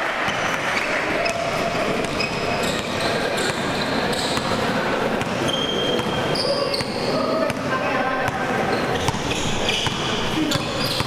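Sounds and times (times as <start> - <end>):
people chattering: 0.0 - 11.0
basketball bouncing: 0.3 - 11.0
sneakers squeaking: 0.3 - 11.0.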